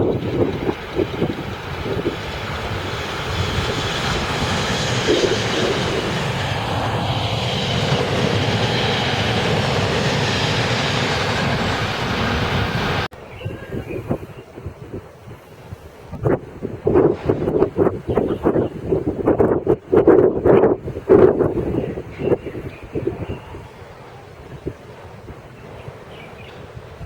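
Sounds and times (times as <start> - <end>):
train passing close by: 0.0 - 13.1, 15.5 - 27.0.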